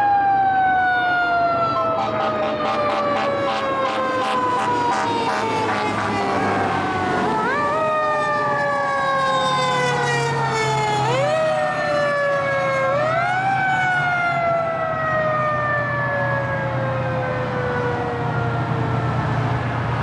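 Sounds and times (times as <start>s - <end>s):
fire engine siren: 0.0s - 20.0s.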